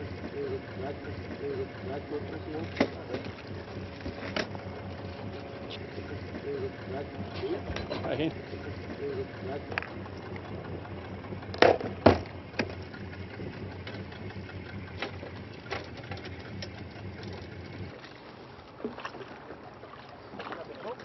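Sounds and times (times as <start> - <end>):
boat motor idling: 0.0 - 21.0.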